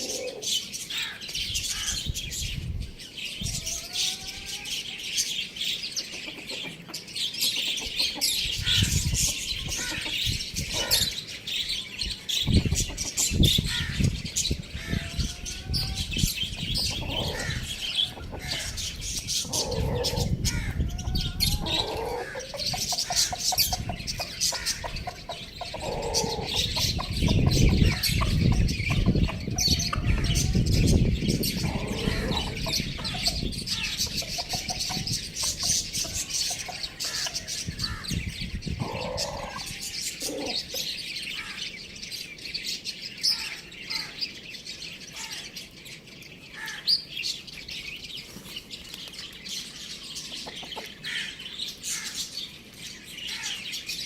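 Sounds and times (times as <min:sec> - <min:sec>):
lower louder bird calls: 0:00.0 - 0:54.0
small birds chirping: 0:00.0 - 0:54.0.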